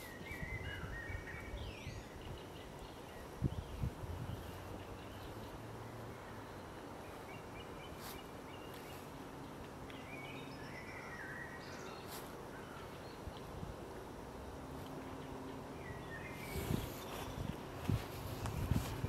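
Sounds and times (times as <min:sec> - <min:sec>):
small birds singing: 0:00.0 - 0:19.0
steady background hiss: 0:00.0 - 0:19.0.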